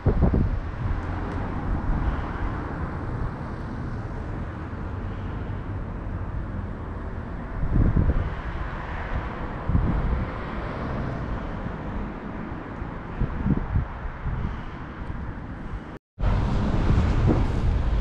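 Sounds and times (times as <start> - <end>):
outdoor background rumble: 0.0 - 18.0.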